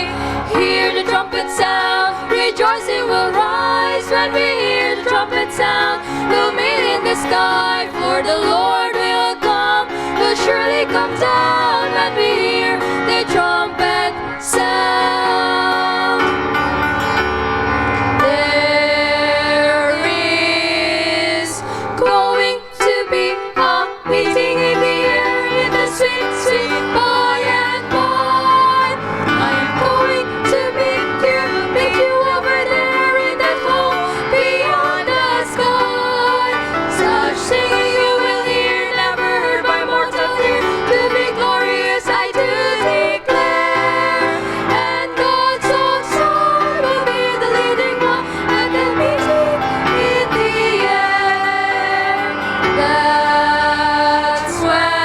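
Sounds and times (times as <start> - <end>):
woman singing: 0.0 - 16.4, 18.2 - 55.0
instrumental accompaniment: 0.0 - 55.0.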